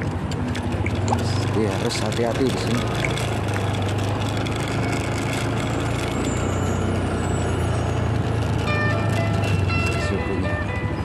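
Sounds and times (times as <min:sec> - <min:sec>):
road and wind noise: 0:00.0 - 0:11.0
small motorcycle engine running: 0:01.1 - 0:11.0.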